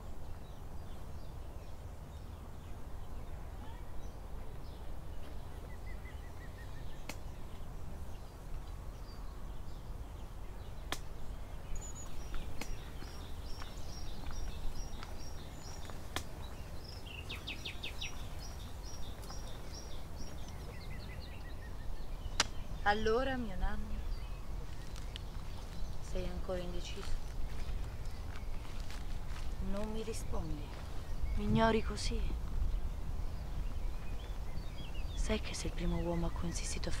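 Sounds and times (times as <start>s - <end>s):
birds singing and chirping: 0.0s - 37.0s.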